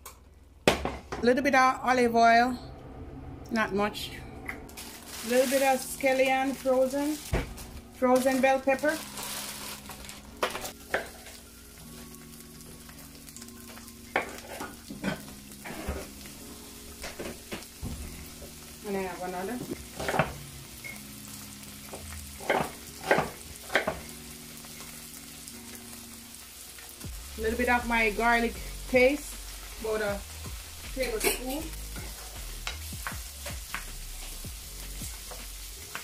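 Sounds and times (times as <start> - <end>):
vegetables sizzling in oil: 4.7 - 36.0.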